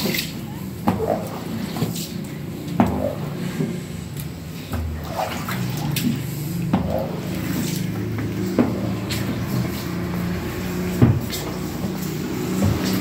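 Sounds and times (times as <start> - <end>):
squeegee pushing water on tiles: 0.0 - 13.0.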